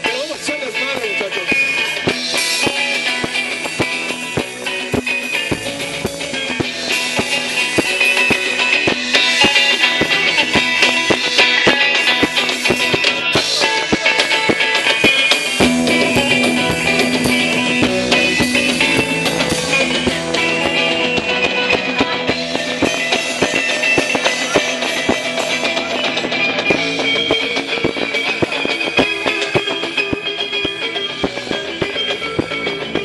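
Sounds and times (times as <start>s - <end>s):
drum kit beat: 0.0s - 33.0s
electric guitar: 0.0s - 33.0s.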